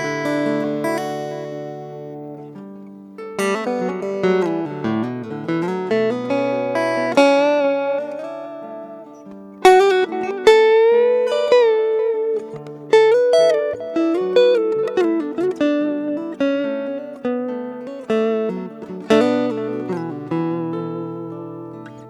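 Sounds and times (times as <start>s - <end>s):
guitar playing picked notes: 0.0s - 22.0s.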